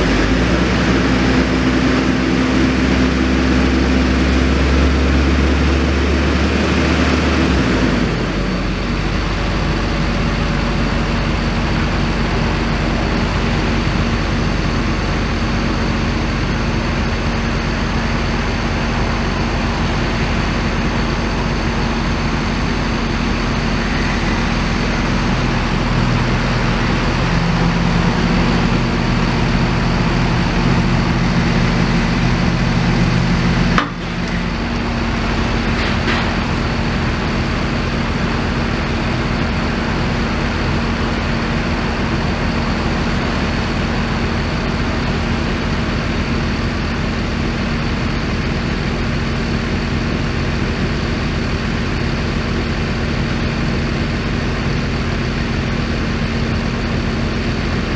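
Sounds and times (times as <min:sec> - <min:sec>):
loader and tractor engines running: 0:00.0 - 0:57.9.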